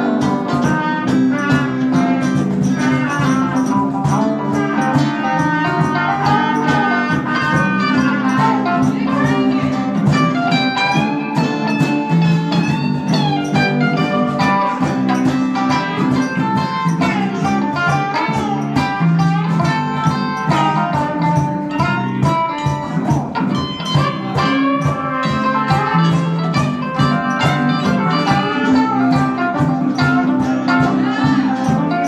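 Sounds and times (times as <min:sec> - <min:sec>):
guitars strumming and picking: 0:00.0 - 0:32.0
trumpet playing melody: 0:00.0 - 0:32.0.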